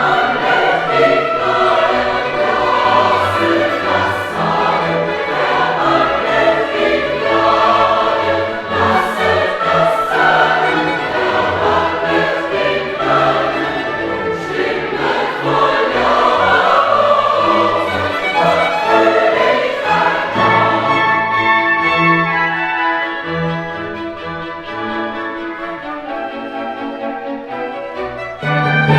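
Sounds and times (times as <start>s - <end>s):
choir singing sacred music: 0.0s - 28.9s
orchestral accompaniment: 0.0s - 28.9s.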